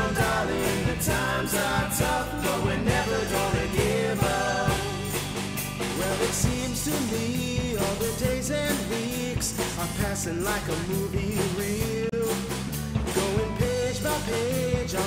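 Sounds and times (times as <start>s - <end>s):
song with drums and bass: 0.0s - 15.0s.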